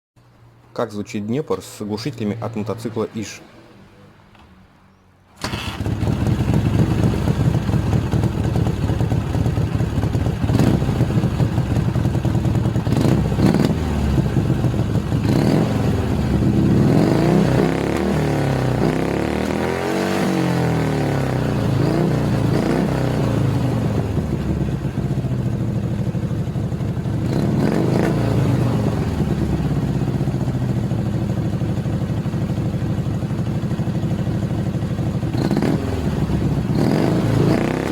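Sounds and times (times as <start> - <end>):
motorcycle engine revving: 5.4 - 37.9.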